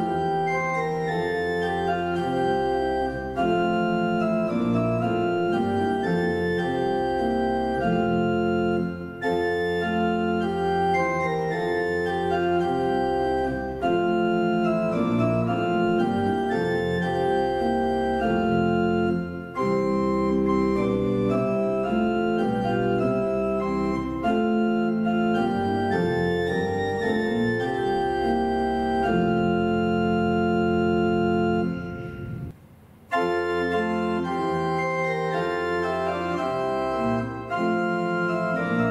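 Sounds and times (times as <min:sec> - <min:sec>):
pipe organ chords: 0:00.0 - 0:38.9.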